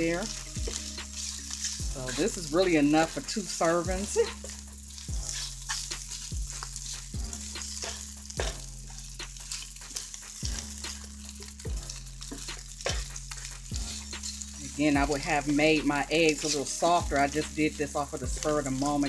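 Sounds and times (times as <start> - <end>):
food sizzling in a frying pan: 0.0 - 19.0
spatula scraping a pan: 0.0 - 19.0.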